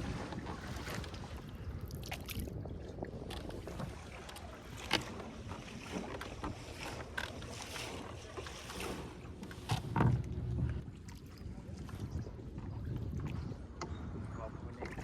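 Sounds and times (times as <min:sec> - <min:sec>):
wind on microphone: 0:00.0 - 0:07.0, 0:09.6 - 0:15.0
boat rumbling on river: 0:00.0 - 0:15.0.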